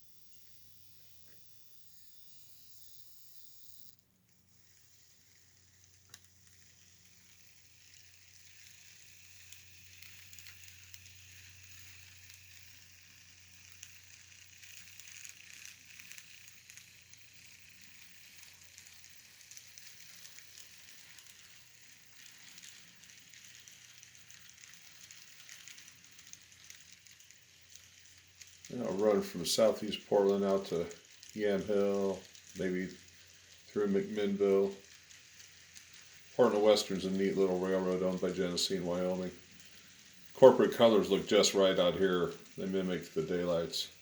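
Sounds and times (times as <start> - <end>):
faint crackling hiss: 0.0 - 44.0
steady low hum: 0.0 - 44.0.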